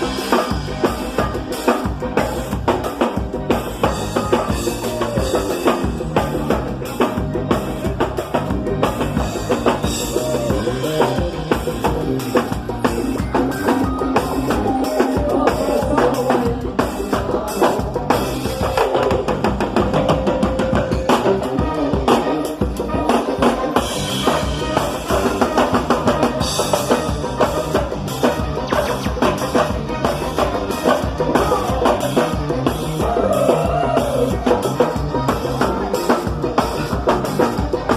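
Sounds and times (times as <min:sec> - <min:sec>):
drum kit beat: 0:00.0 - 0:37.9
live band playing: 0:00.0 - 0:37.9.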